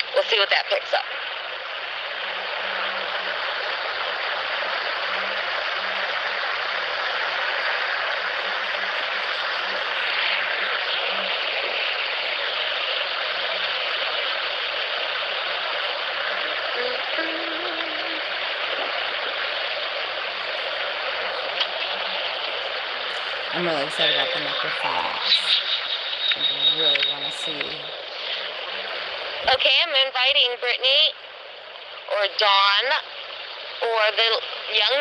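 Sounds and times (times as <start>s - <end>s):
wind: 1.0s - 30.0s.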